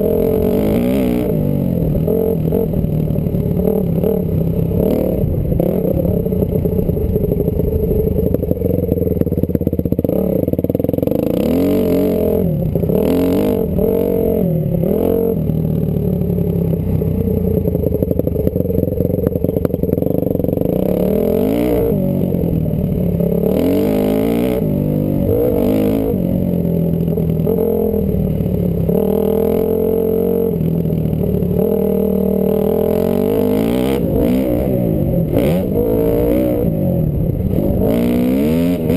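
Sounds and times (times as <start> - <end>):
dirt bike engine revving: 0.0 - 8.3, 9.8 - 15.8, 18.5 - 38.9.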